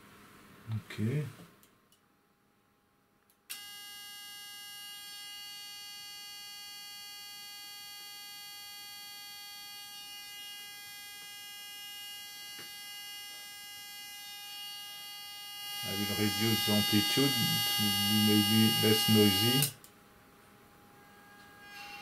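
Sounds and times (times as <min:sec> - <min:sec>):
high-pitched electrical whine: 0:03.5 - 0:19.8, 0:20.6 - 0:22.0.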